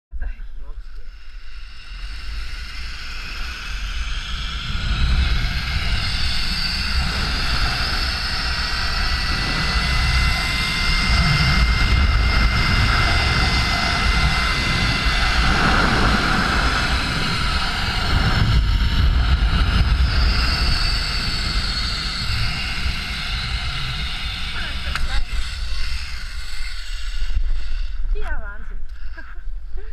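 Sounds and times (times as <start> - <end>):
wind rumble on microphone: 0.2 - 29.9
zip-line trolley whining on cable: 0.8 - 29.9.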